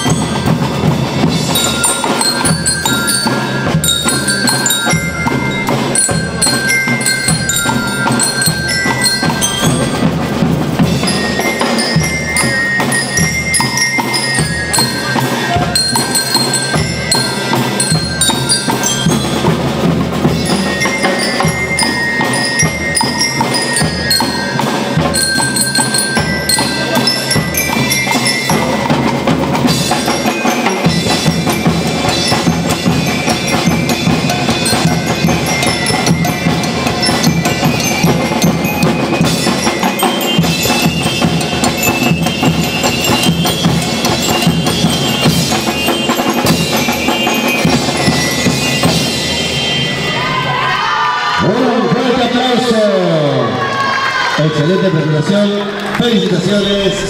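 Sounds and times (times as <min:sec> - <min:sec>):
bell lyres chiming melody: 0:00.0 - 0:50.4
drums keeping a beat: 0:00.0 - 0:50.5, 0:56.3 - 0:57.0.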